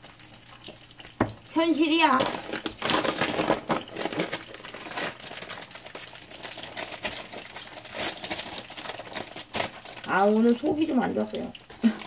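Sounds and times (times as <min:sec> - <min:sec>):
dumplings frying in oil: 0:00.0 - 0:12.0.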